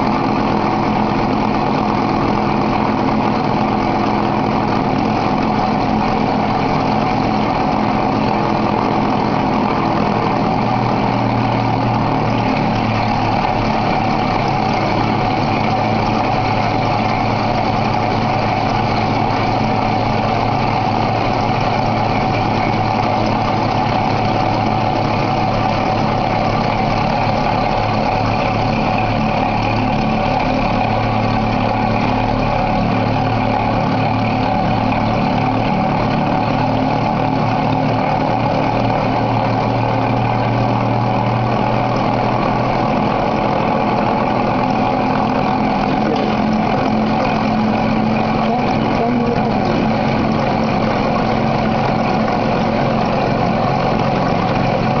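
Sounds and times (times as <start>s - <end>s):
grinding machine motor drone: 0.0s - 55.0s.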